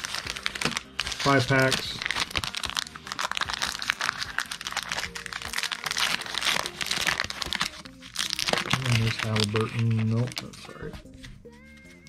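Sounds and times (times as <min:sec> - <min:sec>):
plastic wrapper crinkling and tearing: 0:00.0 - 0:12.0.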